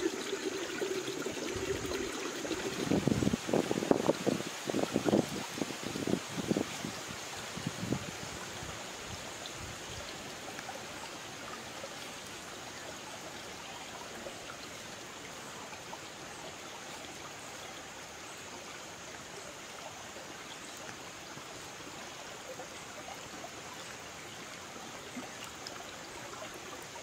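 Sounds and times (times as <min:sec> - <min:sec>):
water running in rocky stream: 0:00.0 - 0:27.0.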